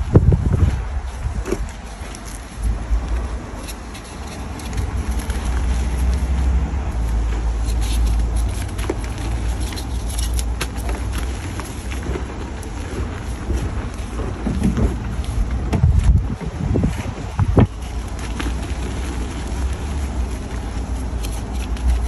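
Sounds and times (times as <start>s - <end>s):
wind buffeting microphone: 0.0s - 21.2s
chalk being crushed: 1.0s - 22.0s.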